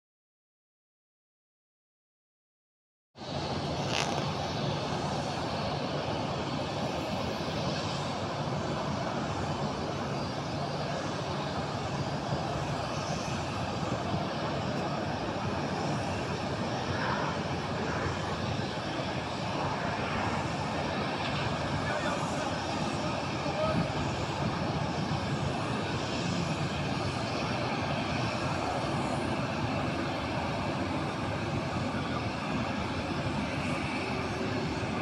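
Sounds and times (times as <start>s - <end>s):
jet aircraft engine noise: 3.2s - 35.0s.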